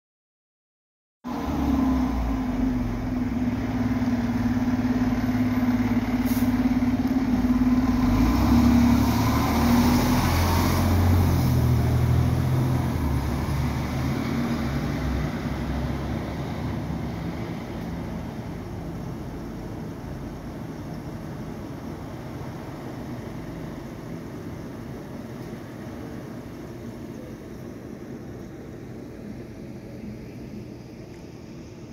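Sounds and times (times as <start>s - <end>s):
fire engine diesel engine passing: 1.3s - 31.9s.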